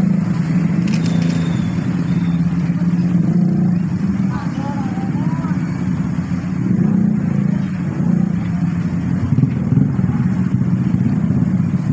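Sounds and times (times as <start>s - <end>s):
motorcycle and car engines: 0.0s - 11.9s.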